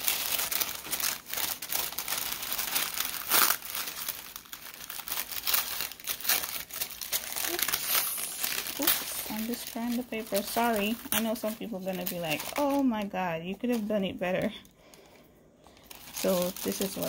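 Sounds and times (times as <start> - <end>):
paper ripping: 0.0 - 12.9, 15.9 - 17.0
tissue paper crinkling: 0.0 - 17.0.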